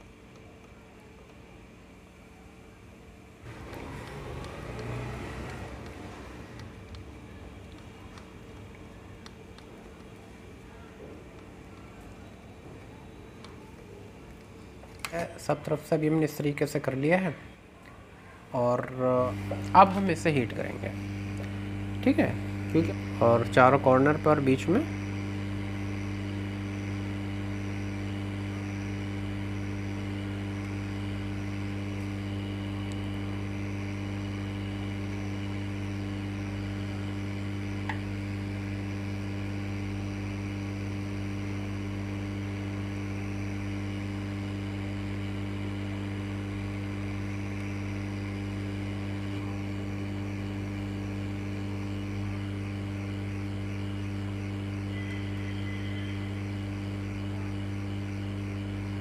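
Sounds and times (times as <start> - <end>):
hot air station hum and hiss: 0.0 - 59.0.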